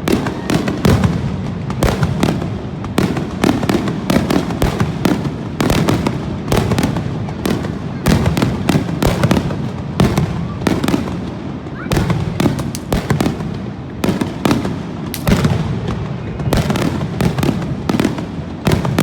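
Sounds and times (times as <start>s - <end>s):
continuous fireworks rumble: 0.0s - 19.0s.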